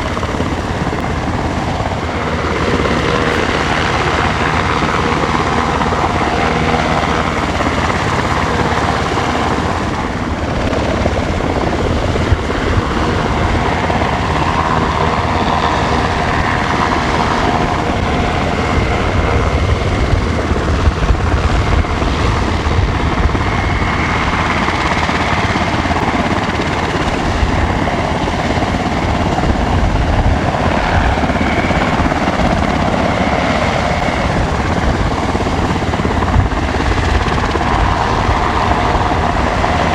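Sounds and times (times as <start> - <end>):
helicopter rotor beat: 0.0 - 39.9
turbine engine whine: 0.0 - 39.9.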